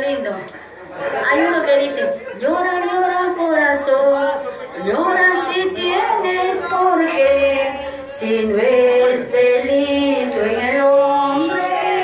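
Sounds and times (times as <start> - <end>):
woman singing into microphone: 1.8 - 12.0.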